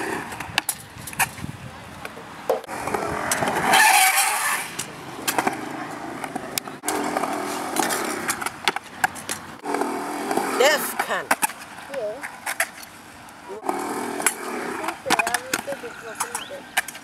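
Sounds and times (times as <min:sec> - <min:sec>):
skateboard wheels rolling and scraping: 0:00.0 - 0:17.0
skateboard clacking on concrete: 0:02.0 - 0:12.9, 0:13.5 - 0:17.0.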